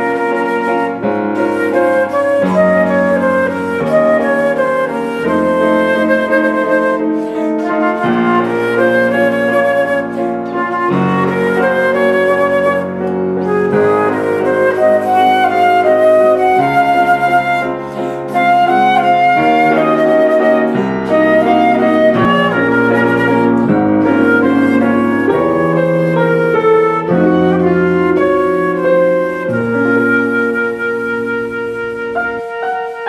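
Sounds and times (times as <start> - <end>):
flute melody: 0.0 - 33.0
piano accompaniment: 0.0 - 33.0.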